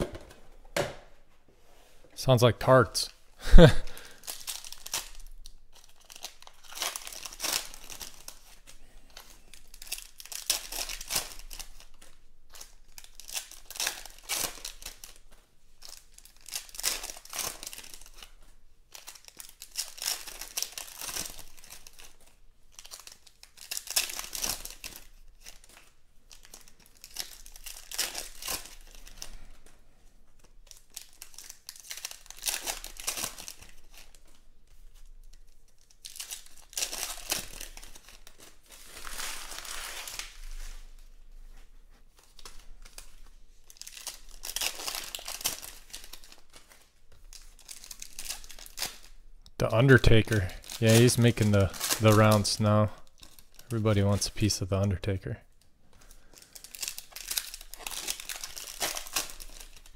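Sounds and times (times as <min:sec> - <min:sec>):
wrappers rustling: 0:03.0 - 0:54.7, 0:55.4 - 0:59.9
foil packs tearing and crinkling: 0:03.6 - 0:15.2, 0:15.8 - 0:29.6, 0:30.4 - 0:41.1, 0:42.2 - 0:49.2, 0:49.8 - 0:54.5, 0:56.0 - 0:59.9.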